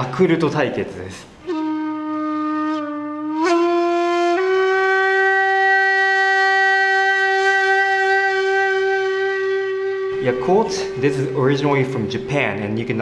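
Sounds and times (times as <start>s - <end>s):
long held horn-like note: 1.4s - 13.0s.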